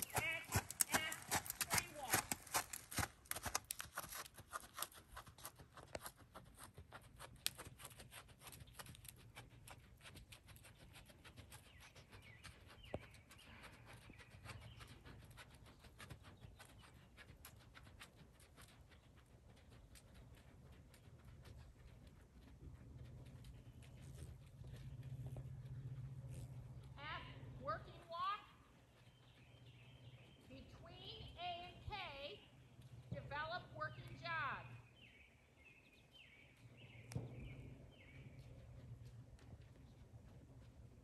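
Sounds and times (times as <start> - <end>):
horse hooves on sand: 0.0 - 41.0.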